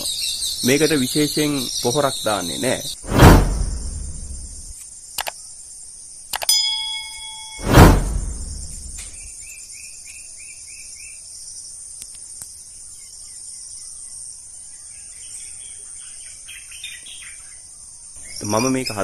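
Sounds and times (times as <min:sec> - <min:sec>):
bird chirps: 0:00.0 - 0:05.7, 0:06.3 - 0:11.2, 0:12.8 - 0:19.0.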